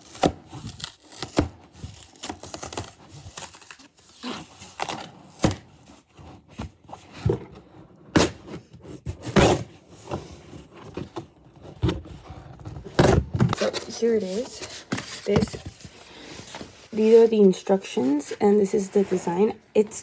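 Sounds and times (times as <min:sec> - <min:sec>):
cardboard scraping and rustling: 0:02.6 - 0:19.9.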